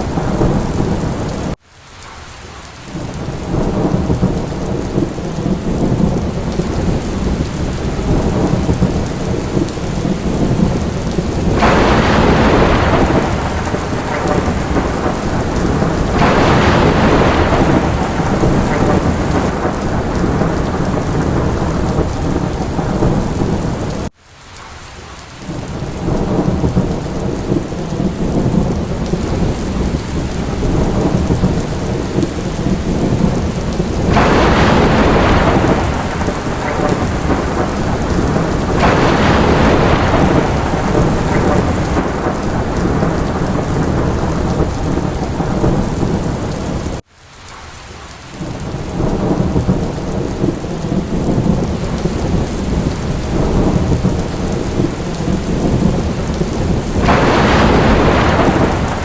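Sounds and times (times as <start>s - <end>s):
low rumbling thunder: 0.0s - 1.6s, 3.0s - 24.1s, 25.4s - 47.0s, 48.4s - 59.0s
steady rain: 0.0s - 59.0s.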